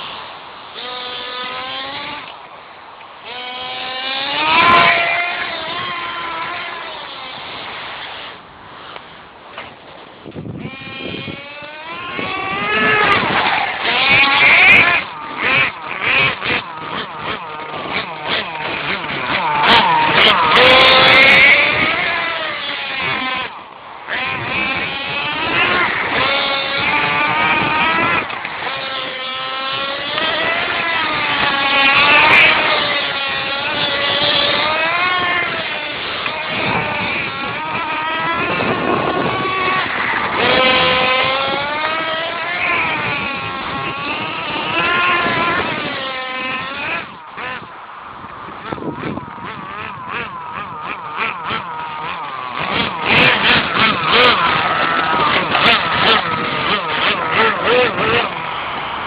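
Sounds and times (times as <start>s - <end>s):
rc car motor whining: 0.0s - 2.5s, 3.2s - 59.0s.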